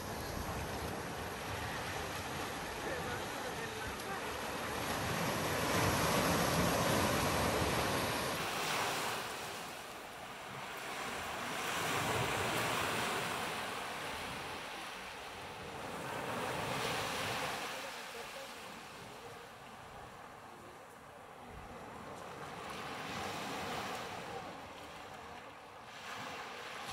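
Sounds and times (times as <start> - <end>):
small waves breaking on beach: 0.0 - 26.9.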